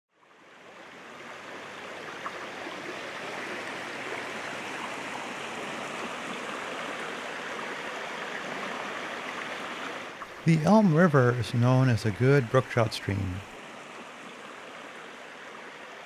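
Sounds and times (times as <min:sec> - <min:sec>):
small stream flowing: 0:00.1 - 0:16.0.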